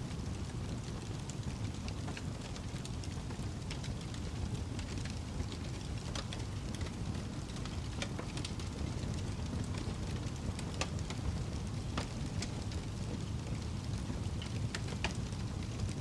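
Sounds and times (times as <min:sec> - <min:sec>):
fire crackles and small pops: 0:00.0 - 0:16.0
wood fire rumbling: 0:00.0 - 0:16.0.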